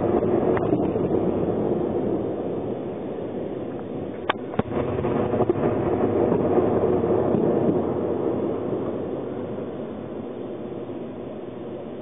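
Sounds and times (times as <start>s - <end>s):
distant rocket and artillery rumble: 0.0s - 12.0s.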